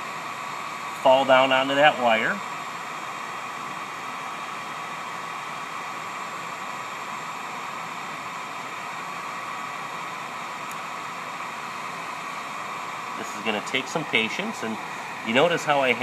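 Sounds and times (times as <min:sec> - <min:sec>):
faint whine: 0:00.0 - 0:16.0
heat gun blowing air: 0:00.0 - 0:16.0.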